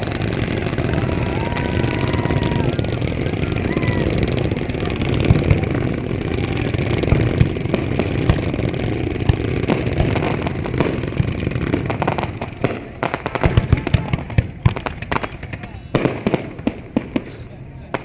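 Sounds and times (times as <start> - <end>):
background rumble: 0.0 - 18.0
fireworks booms and pops: 0.0 - 18.0
fireworks crackling: 0.0 - 18.0.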